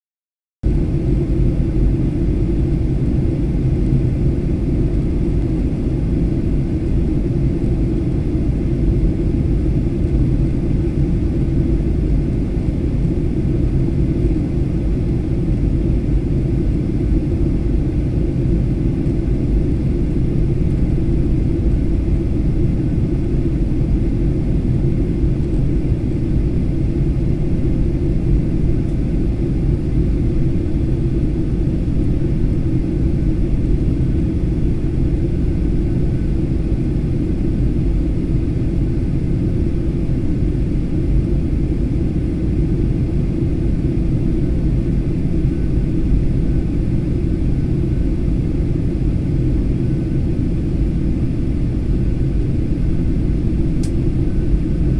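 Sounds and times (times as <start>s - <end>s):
jet engines rumbling: 0.7s - 54.9s.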